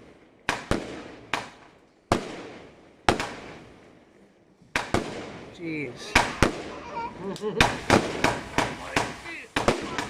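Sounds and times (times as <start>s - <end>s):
firework bangs: 0.0s - 4.0s, 4.7s - 10.0s.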